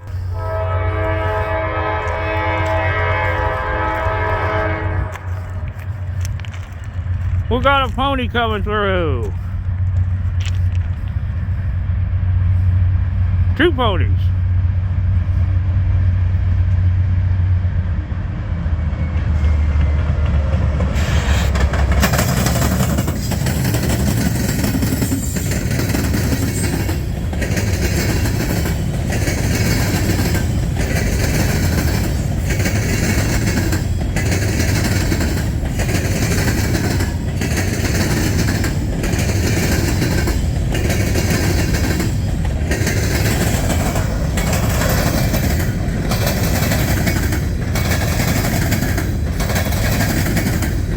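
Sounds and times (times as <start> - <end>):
train wheels clattering on rail: 0.0 - 8.1, 18.2 - 50.9
locomotive engine rumble: 0.0 - 50.9.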